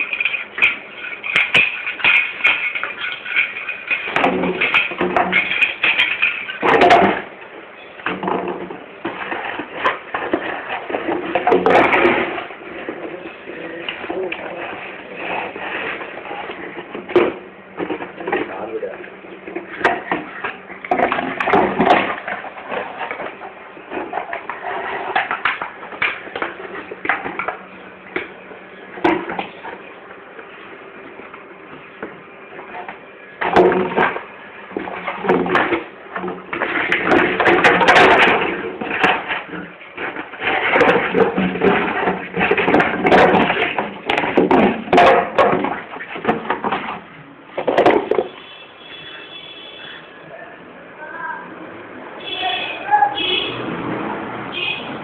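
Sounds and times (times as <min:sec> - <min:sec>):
plastic bottle clattering on stone: 0:00.0 - 0:29.9, 0:31.8 - 0:49.1.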